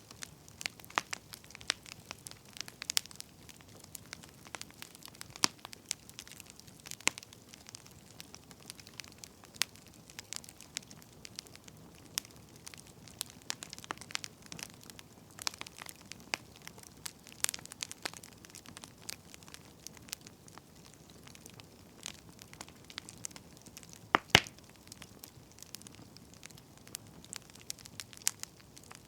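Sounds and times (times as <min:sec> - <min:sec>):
firewood crackling: 0:00.0 - 0:29.0.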